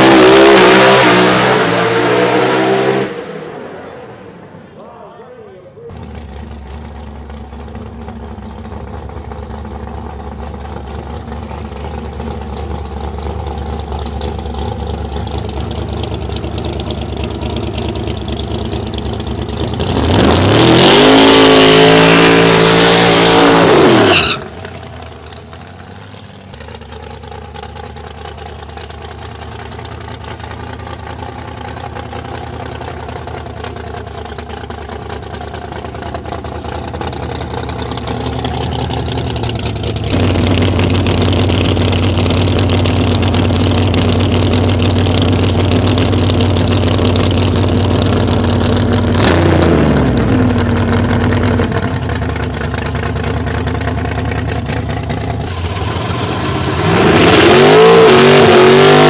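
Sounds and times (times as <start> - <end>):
car engine idling and revving: 0.0 - 4.8, 5.6 - 59.0.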